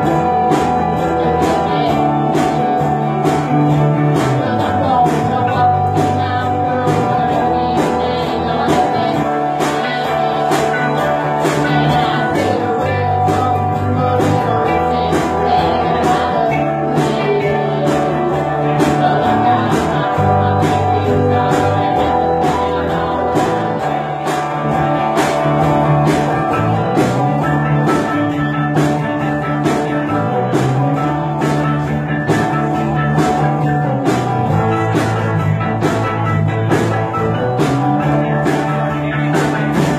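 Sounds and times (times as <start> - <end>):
blues-rock band playing: 0.0 - 39.9.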